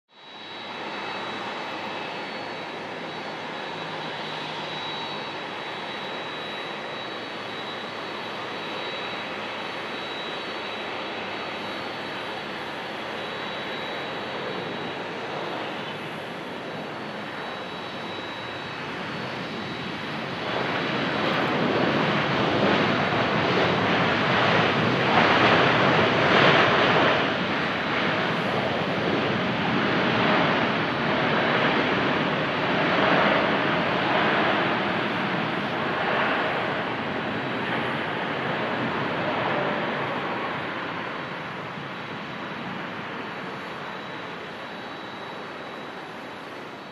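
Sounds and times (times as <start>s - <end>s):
jet engine noise: 0.1s - 46.9s
thin high whine: 0.1s - 46.9s.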